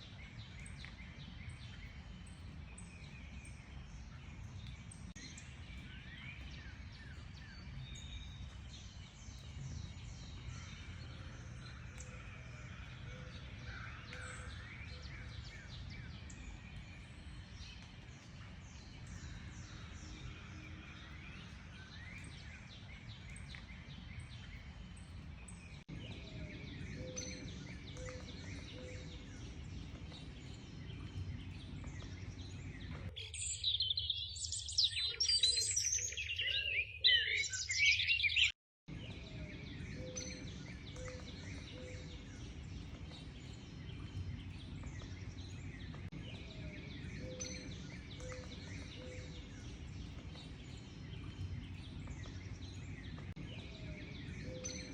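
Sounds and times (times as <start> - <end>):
songbirds chirping and singing: 0.0 - 54.9.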